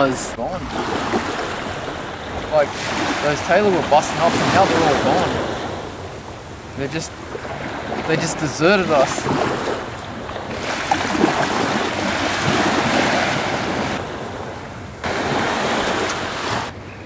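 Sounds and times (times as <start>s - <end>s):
small waves breaking on beach: 0.0s - 16.8s
wind buffeting microphone: 0.0s - 17.0s.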